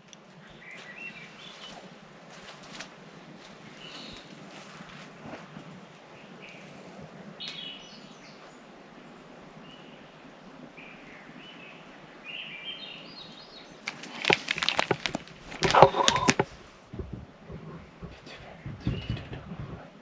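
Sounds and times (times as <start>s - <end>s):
small birds chirping: 0.0s - 20.0s
steady background hiss: 0.0s - 20.0s.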